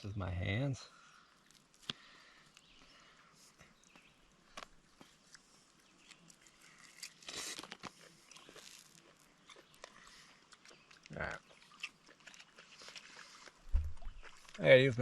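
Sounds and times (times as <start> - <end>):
eating crunches and clicks: 1.4 - 2.8, 3.8 - 14.7.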